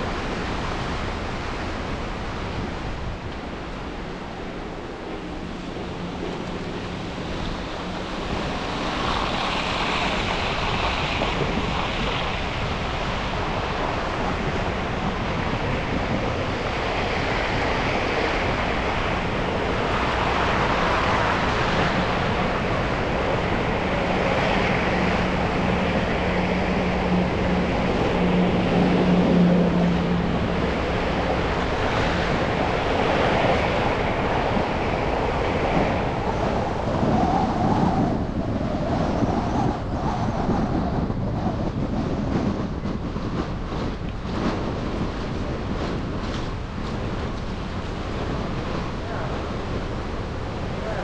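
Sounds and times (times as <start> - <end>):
low engine hum: 0.0 - 51.0.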